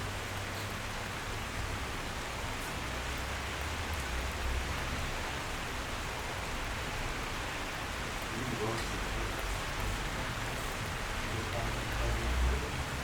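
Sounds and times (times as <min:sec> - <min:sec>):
dense rain falling: 0:00.0 - 0:13.0.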